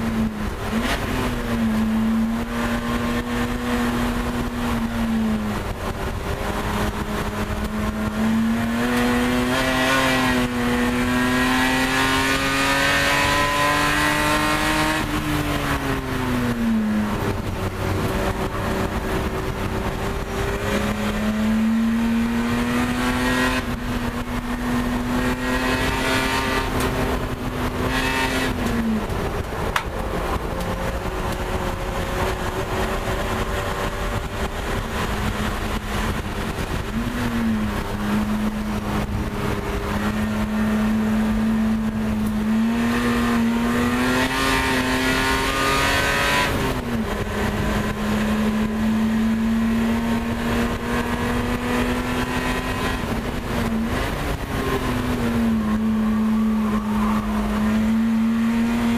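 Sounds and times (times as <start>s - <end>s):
race car engine at high revs: 0.0s - 58.9s.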